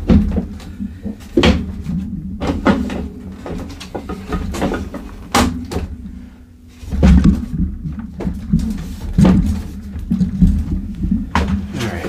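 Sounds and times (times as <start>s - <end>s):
dull thumps: 0.0s - 12.0s.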